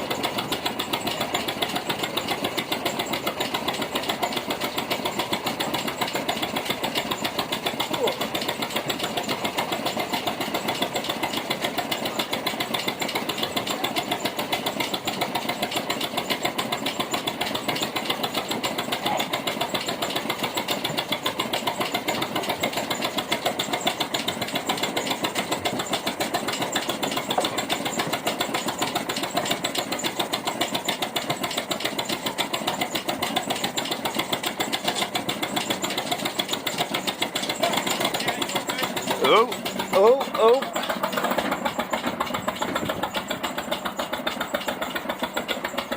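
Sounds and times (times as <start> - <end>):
diesel locomotive engine running: 0.0 - 45.9.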